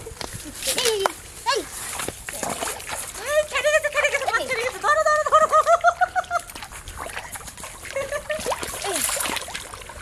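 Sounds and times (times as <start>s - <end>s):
splashing in shallow water: 0.1s - 10.0s.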